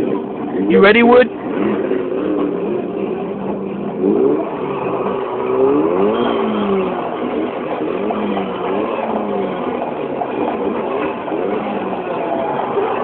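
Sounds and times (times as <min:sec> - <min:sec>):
car engine revving: 0:00.0 - 0:13.0
steady noisy background: 0:00.0 - 0:13.0.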